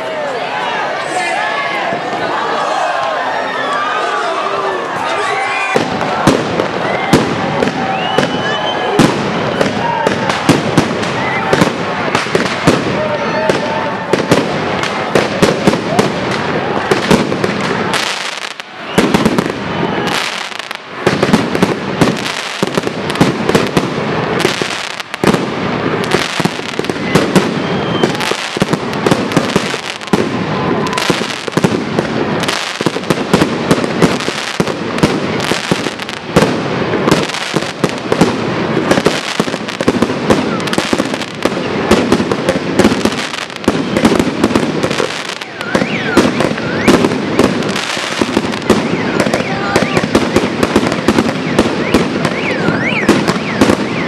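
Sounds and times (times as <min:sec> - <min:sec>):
fireworks bursting: 0:04.9 - 0:54.0.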